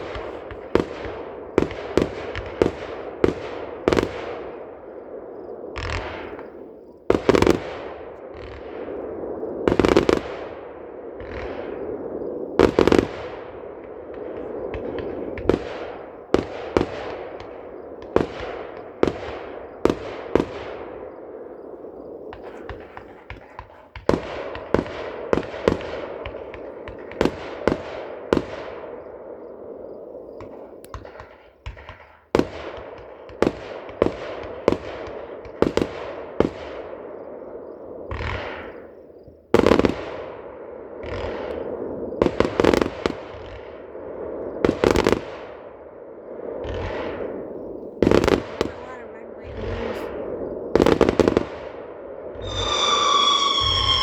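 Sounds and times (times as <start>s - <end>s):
fireworks bangs: 0.0s - 29.7s, 30.3s - 36.9s, 39.6s - 43.7s, 46.6s - 54.0s.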